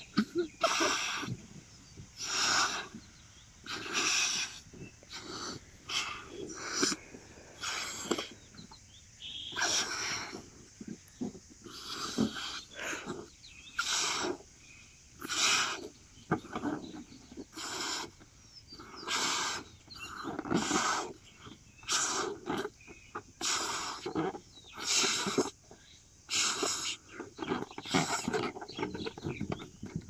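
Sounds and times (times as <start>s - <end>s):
breaths blowing up balloons: 0.0s - 14.6s, 15.2s - 30.0s.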